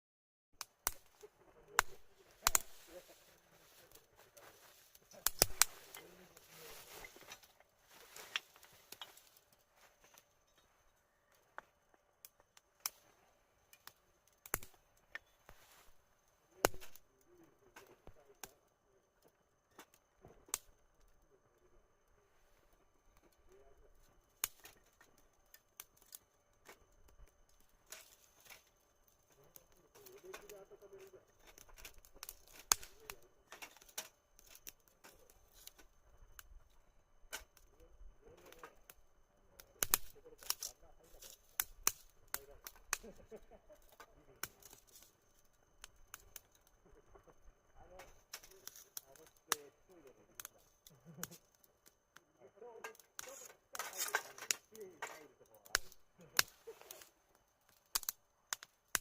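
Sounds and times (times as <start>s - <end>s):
campfire wood crackling and popping: 0.6s - 59.0s.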